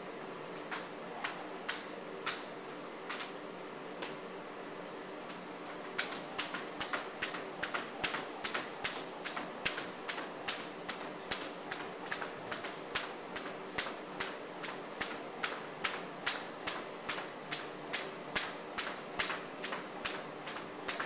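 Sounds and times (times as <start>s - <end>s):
skipping rope slapping wooden floor: 0.6s - 3.4s, 6.0s - 21.0s.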